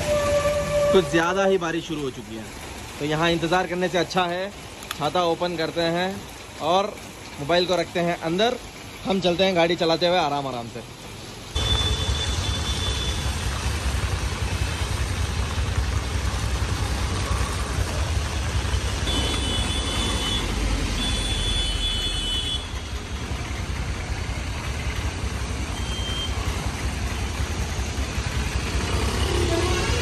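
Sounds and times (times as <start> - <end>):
heavy rain on wet street: 0.0 - 30.0
traffic on flooded road: 0.0 - 30.0.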